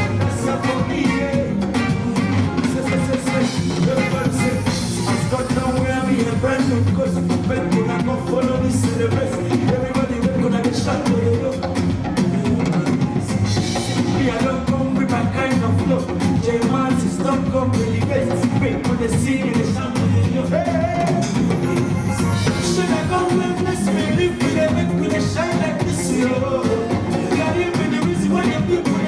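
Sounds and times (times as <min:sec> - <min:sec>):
drum kit beat: 0:00.0 - 0:29.0
person singing: 0:00.0 - 0:29.0.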